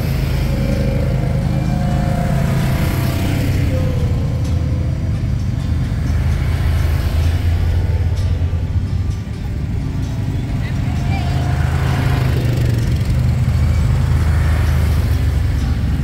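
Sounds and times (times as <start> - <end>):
atv engines running at low revs: 0.0 - 16.0.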